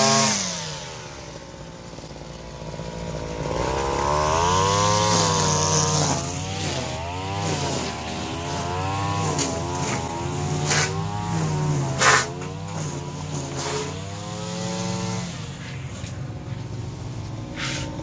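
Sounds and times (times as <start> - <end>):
brush cutter engine revving: 0.0 - 18.0.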